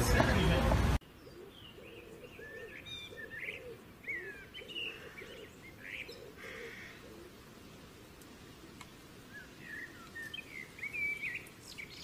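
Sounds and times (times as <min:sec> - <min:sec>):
birds chirping: 0:00.0 - 0:12.0
faint outdoor background noise: 0:00.0 - 0:12.0.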